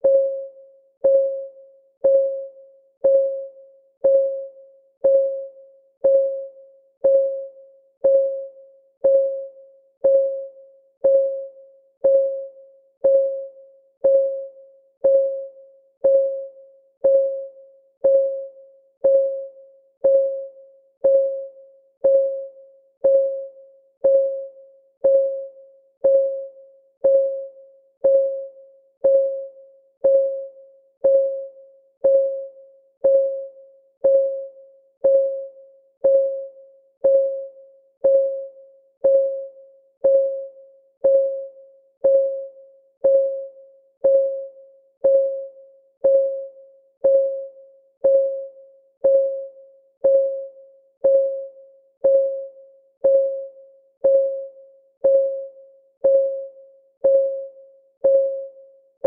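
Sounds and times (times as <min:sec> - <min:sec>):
timer clock ticking: 0:01.0 - 0:58.5.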